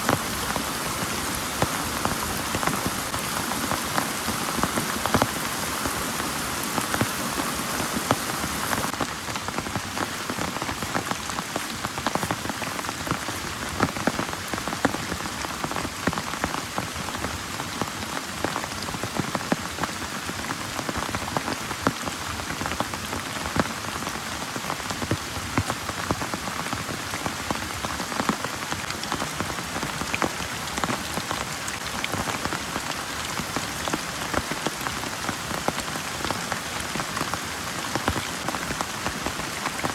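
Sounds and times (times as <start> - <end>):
heavy rain pouring: 0.0 - 39.9
raindrops clicking on a surface: 0.0 - 39.9.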